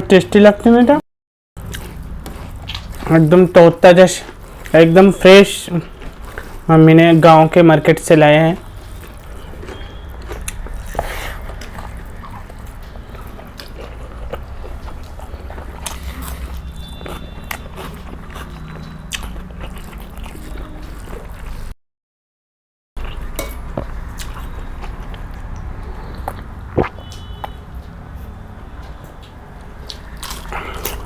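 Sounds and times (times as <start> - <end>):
chewing and biting food: 1.6 - 21.7, 23.0 - 31.0.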